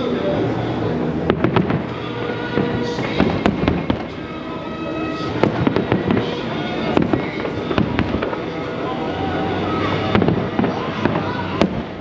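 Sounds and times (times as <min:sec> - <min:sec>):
fireworks bursting: 0:00.0 - 0:12.0
music playing: 0:00.0 - 0:12.0.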